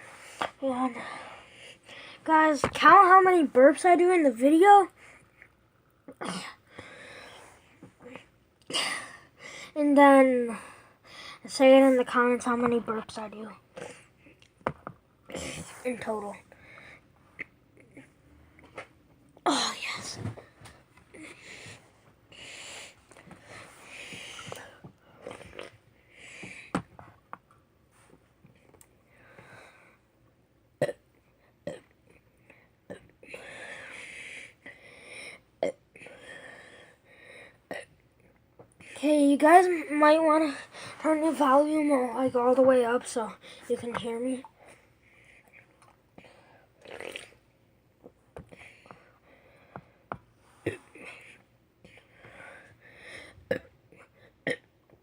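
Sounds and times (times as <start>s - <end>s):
soft breaths: 0.0s - 2.6s, 4.7s - 14.6s, 15.3s - 19.0s, 19.6s - 27.2s, 27.8s - 30.2s, 31.2s - 46.8s, 48.3s - 54.4s.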